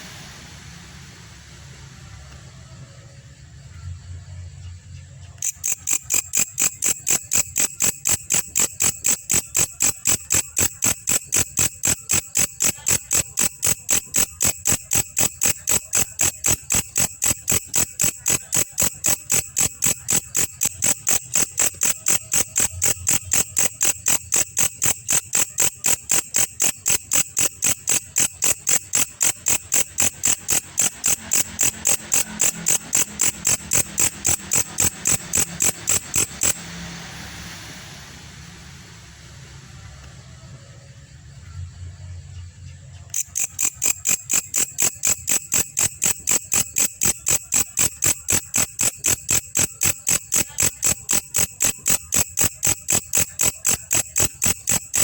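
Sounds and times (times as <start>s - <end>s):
insect high chirps: 5.2s - 37.2s, 43.0s - 55.0s.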